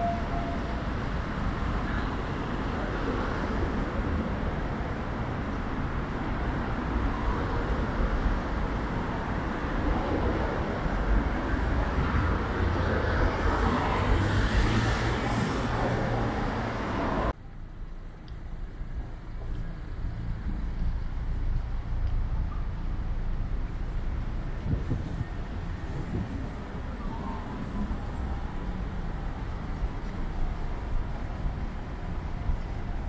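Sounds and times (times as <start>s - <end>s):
steady traffic rumble: 0.0s - 33.0s.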